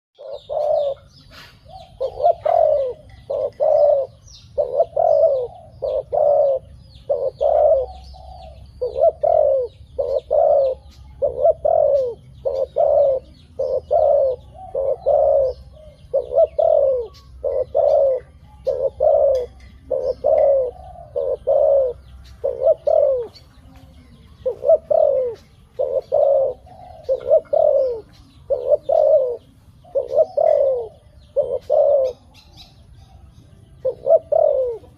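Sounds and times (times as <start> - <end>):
dove cooing: 0.2 - 34.9.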